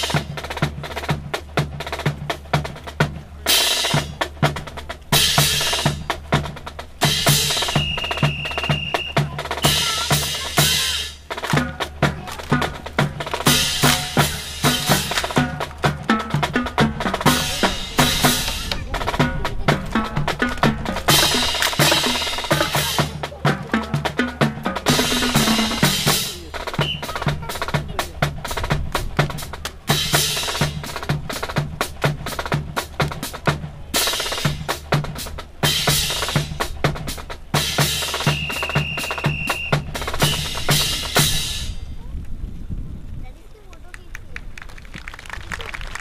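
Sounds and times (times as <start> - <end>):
snare drum strokes and rolls: 0.0 - 41.9
bass drum beat: 0.0 - 42.0.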